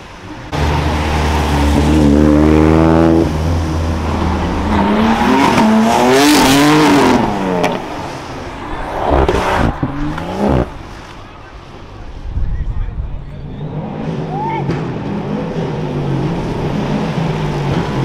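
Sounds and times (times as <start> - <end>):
car engine revving: 0.1 - 12.2, 13.0 - 18.0.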